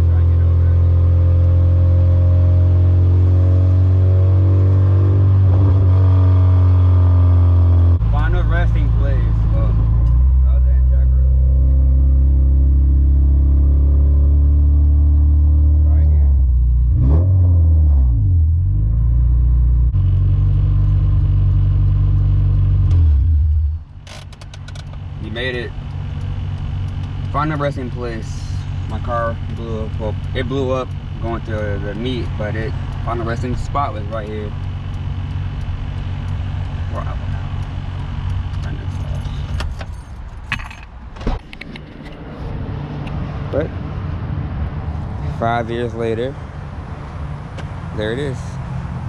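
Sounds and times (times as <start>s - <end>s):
car engine drone: 0.0s - 49.0s
road noise: 0.0s - 49.0s.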